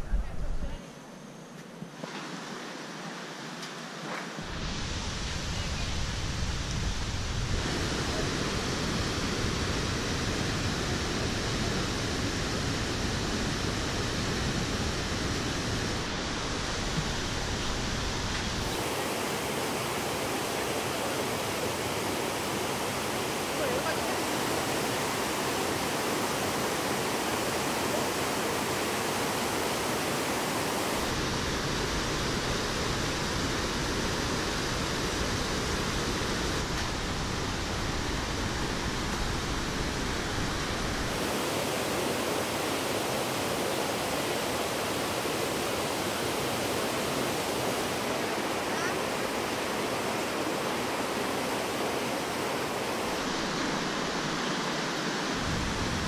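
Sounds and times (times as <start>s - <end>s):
roar of waterfall and rapids: 0.0s - 56.0s.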